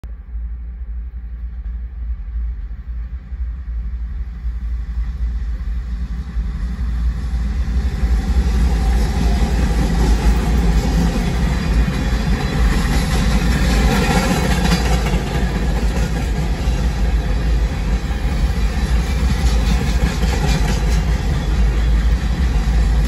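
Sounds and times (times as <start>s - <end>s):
freight train low rumble: 0.0s - 23.0s.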